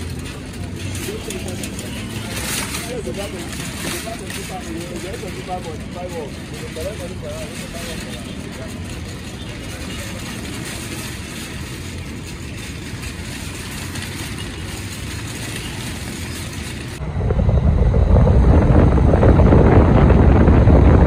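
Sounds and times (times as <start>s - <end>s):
shopping cart rattling on asphalt: 0.0s - 17.0s
vehicle road and wind noise: 0.0s - 21.0s.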